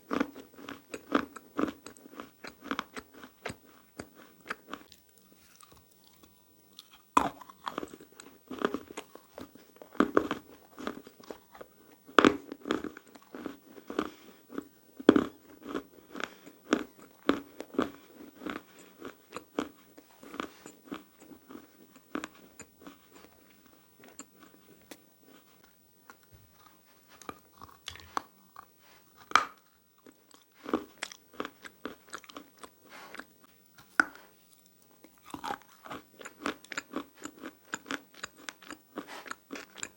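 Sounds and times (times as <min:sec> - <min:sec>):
biting and chewing chalk: 0:00.1 - 0:39.9.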